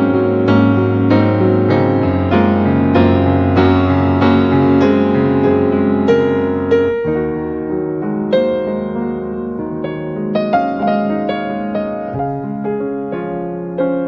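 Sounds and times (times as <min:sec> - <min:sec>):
slow classical piano piece: 0:00.0 - 0:14.0.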